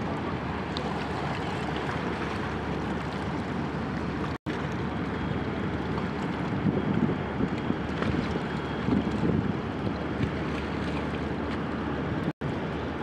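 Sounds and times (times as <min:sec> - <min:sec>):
river water rushing: 0:00.0 - 0:12.6.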